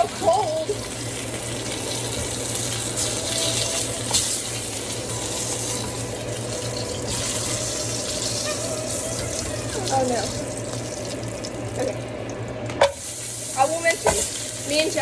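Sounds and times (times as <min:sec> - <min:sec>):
sausages sizzling in a frying pan: 0:00.0 - 0:15.0.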